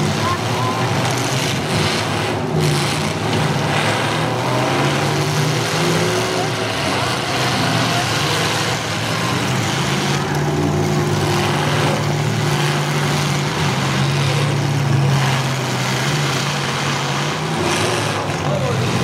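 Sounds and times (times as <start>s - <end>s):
car engines running loud: 0.0s - 19.0s.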